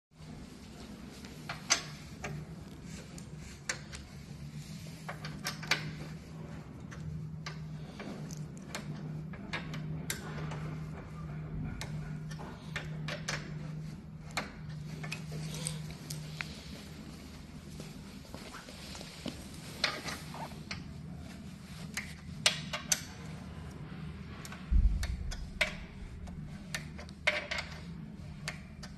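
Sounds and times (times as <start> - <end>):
low steady hum: 0.2 - 28.9.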